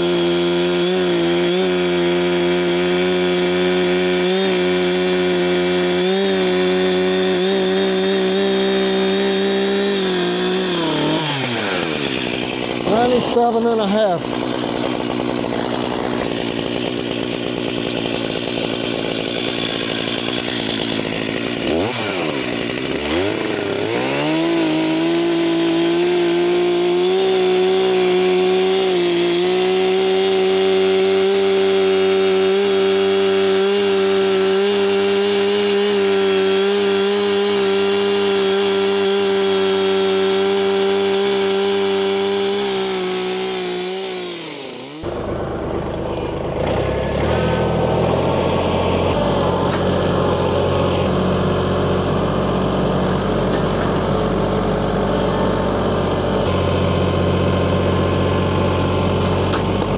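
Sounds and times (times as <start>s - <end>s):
motorised saw running: 0.0s - 59.9s.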